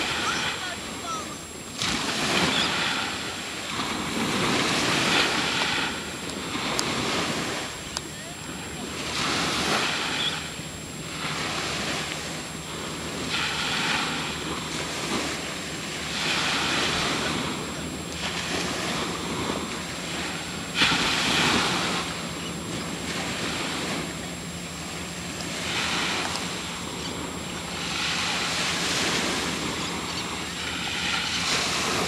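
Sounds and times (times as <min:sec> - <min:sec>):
ocean waves washing in: 0:00.0 - 0:32.0
wind on microphone: 0:00.0 - 0:32.0.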